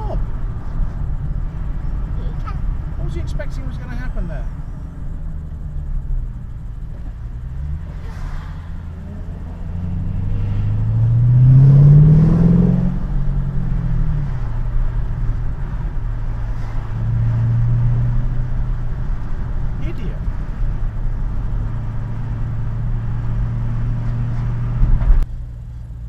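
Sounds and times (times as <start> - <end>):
car engine revving: 0.0 - 25.3.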